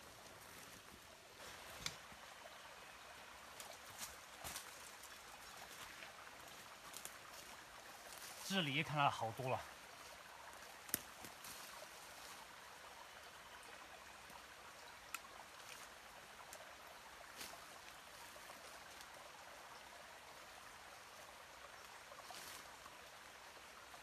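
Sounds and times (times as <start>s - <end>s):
distant stream rushing: 0.0s - 24.0s.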